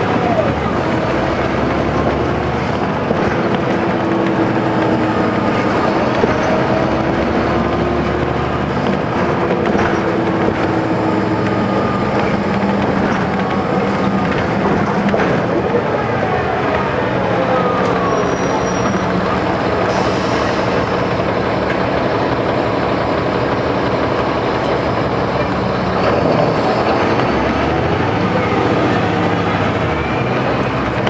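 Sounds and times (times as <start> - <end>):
bus diesel engine idling: 0.0 - 31.0.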